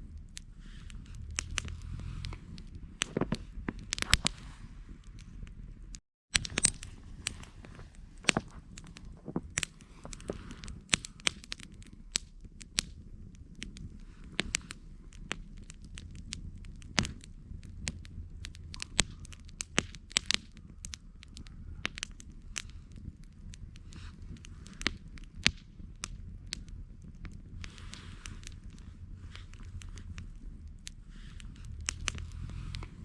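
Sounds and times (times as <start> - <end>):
campfire crackling: 0.0 - 33.0
low steady rumble: 0.0 - 33.0.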